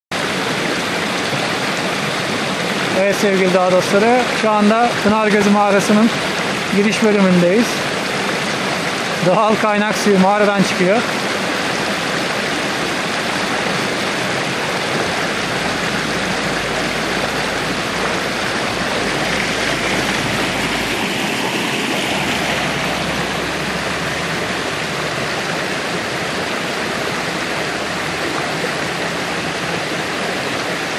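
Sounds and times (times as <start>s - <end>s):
water rushing over rocks: 0.1s - 30.9s.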